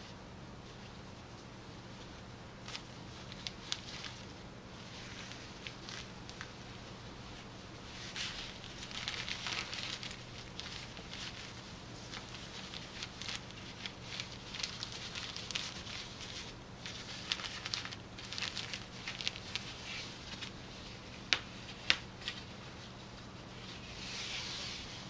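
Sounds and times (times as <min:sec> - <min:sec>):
cloth rustling and crackling: 0:00.0 - 0:25.0.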